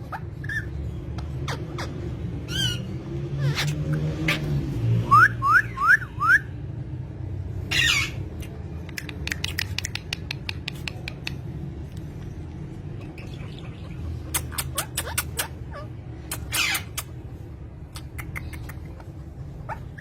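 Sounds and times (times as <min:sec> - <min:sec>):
parrots calling: 0:00.0 - 0:06.4, 0:07.6 - 0:11.4, 0:12.2 - 0:20.0.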